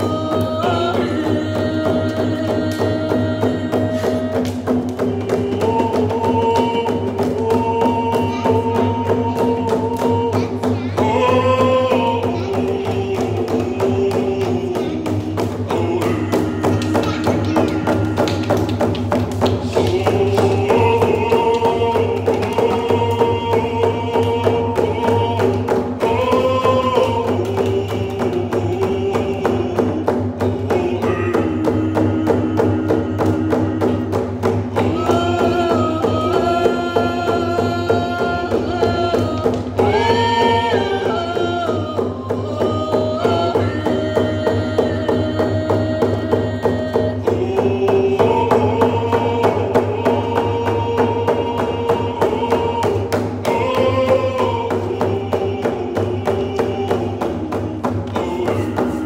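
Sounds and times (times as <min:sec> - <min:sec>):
frame drums beating: 0:00.0 - 0:59.0
voices singing in unison: 0:00.0 - 0:59.0.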